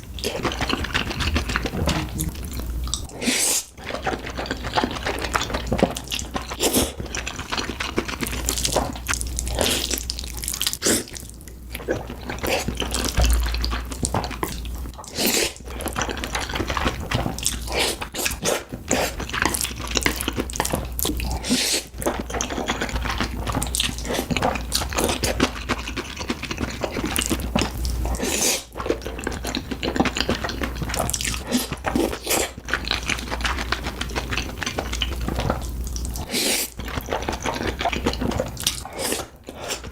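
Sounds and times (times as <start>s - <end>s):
wet chewing and slurping: 0.0s - 39.9s.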